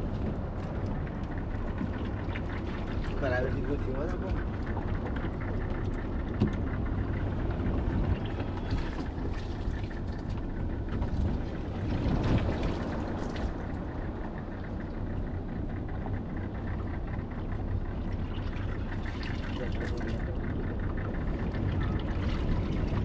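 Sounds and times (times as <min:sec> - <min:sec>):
boat motor drone: 0:00.0 - 0:23.0
water rushing along hull: 0:00.0 - 0:23.0.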